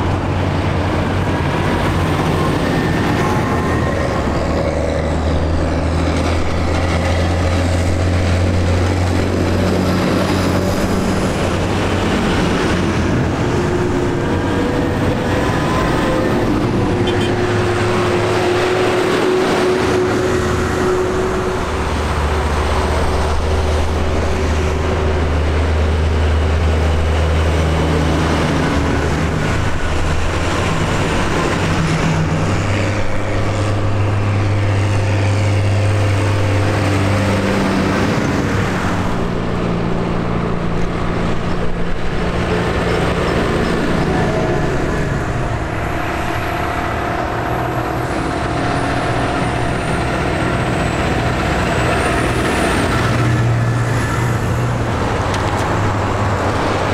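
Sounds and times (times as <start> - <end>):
tractor engines passing: 0.0 - 56.9.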